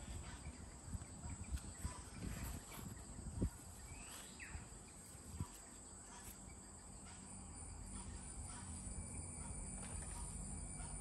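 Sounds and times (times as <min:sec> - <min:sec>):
high insect hum: 0:00.0 - 0:11.0.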